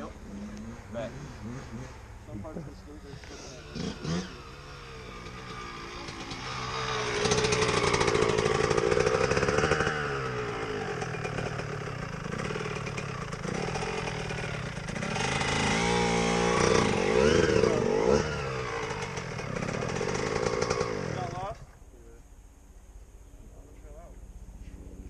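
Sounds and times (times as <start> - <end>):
dirt bike engines revving: 0.0 - 21.9.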